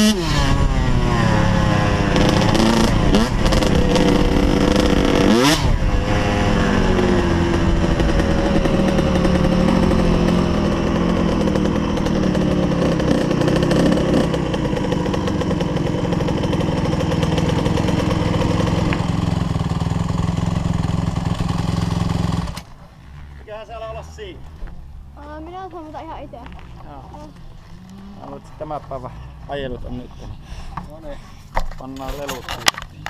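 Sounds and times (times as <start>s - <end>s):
motocross bike engine revving: 0.0s - 25.2s, 26.9s - 29.7s.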